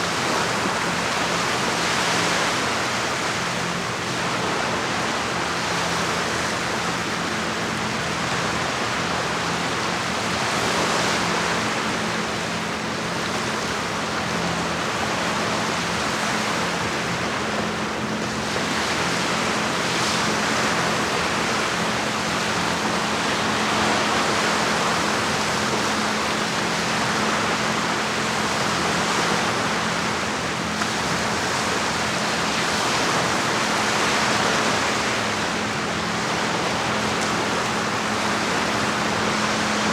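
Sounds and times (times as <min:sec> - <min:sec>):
lake water washing against shore: 0:00.0 - 0:39.9.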